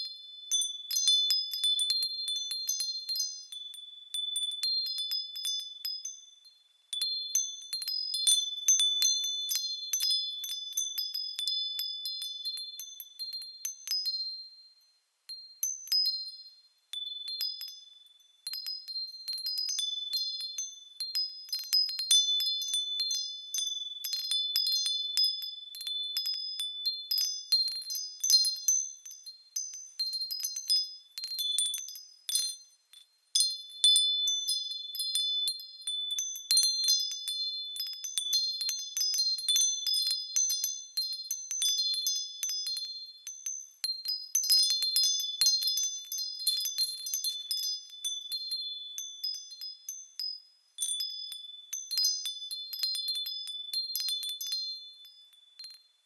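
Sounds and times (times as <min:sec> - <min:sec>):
small bells chiming: 0:00.0 - 0:56.0.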